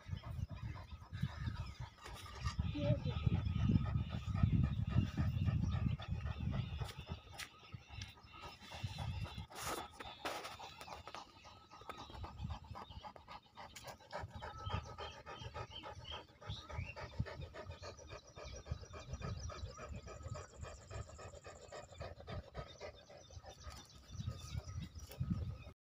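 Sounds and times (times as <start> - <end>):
dog panting: 0.0 - 25.7.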